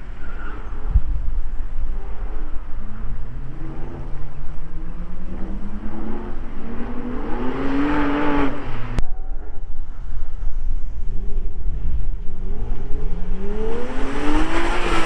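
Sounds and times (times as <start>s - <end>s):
car engine accelerating: 0.0s - 9.0s, 9.6s - 15.0s.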